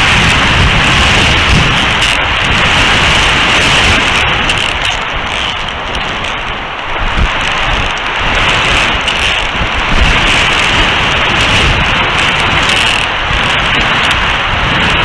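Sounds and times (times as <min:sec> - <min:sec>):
high wind buffeting microphone: 0:00.0 - 0:15.0.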